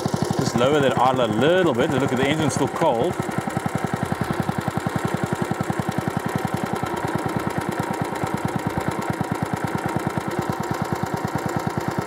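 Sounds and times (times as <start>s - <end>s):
small lawnmower engine idling: 0.0s - 12.0s.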